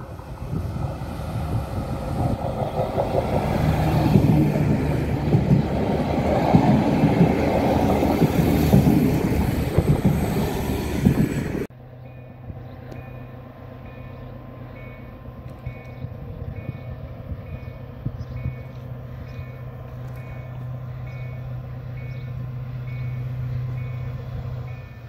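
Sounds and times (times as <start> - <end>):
diesel train passing: 0.0 - 25.0
wheels rumbling on track: 0.0 - 25.0.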